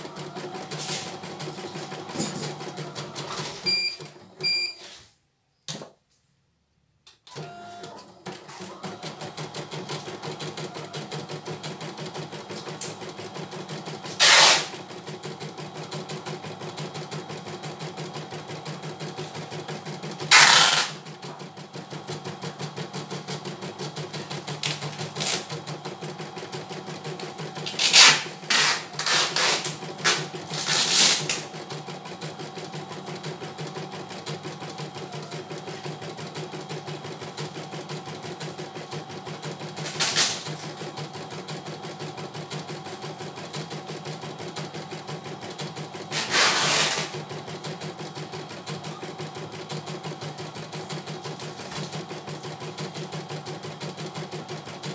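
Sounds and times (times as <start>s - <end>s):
embroidery machine needle stitching: 7.3s - 54.9s.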